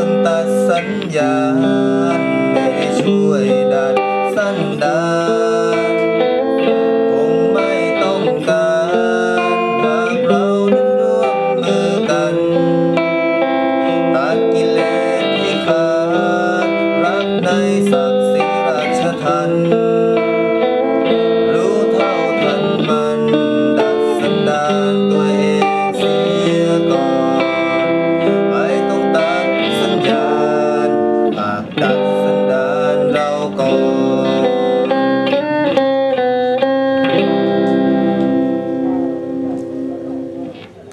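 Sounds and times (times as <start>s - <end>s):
guitar-led instrumental music: 0.0s - 40.9s.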